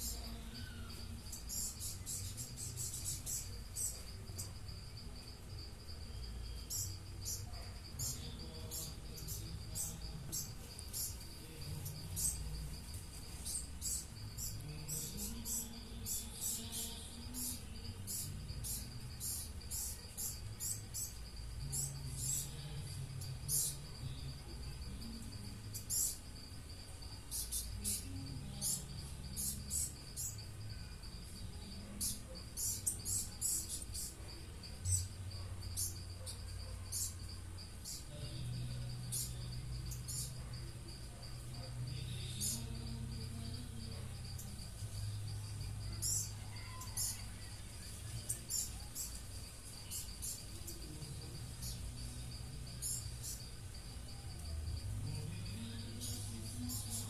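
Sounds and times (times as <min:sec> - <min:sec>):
high-pitched insect drone: 0:00.0 - 0:57.0
small birds chirping: 0:00.0 - 0:57.0.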